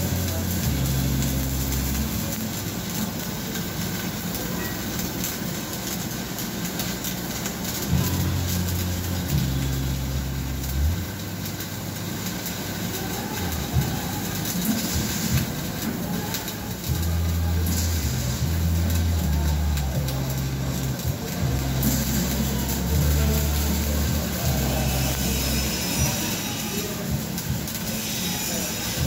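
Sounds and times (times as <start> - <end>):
welding arc crackling: 0.0 - 29.0.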